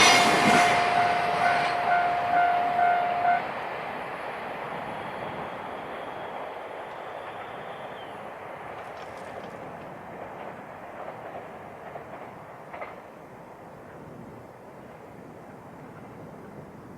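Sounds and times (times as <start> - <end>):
freight train rolling: 0.0 - 16.9.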